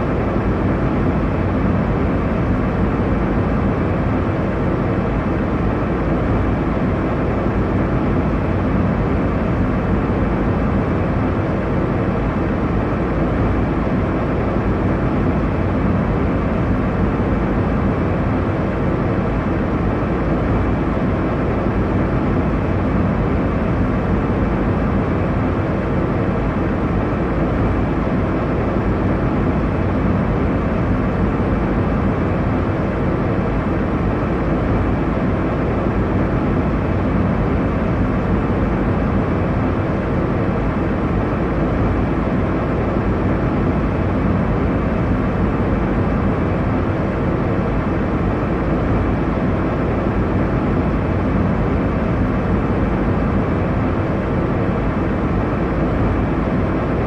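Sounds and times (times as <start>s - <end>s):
airliner cabin drone: 0.0s - 57.0s.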